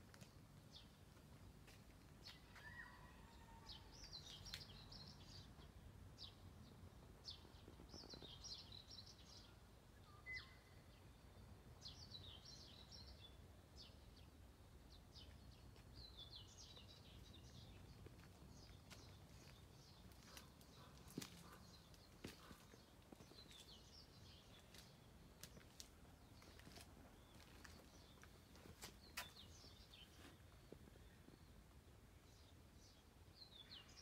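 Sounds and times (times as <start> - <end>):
songbird chirping: 0.1 - 34.0.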